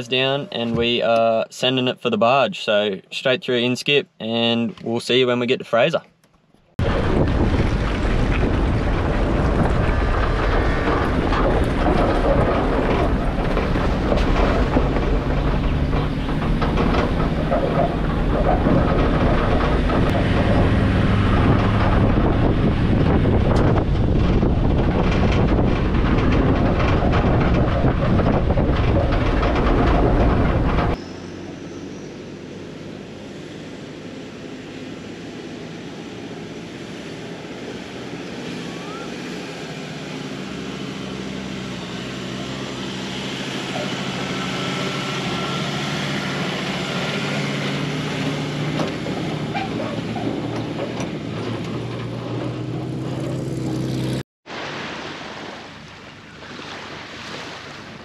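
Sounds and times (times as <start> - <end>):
truck engine: 0.0 - 3.7, 4.3 - 56.3
wind buffeting and rumble: 6.8 - 56.4.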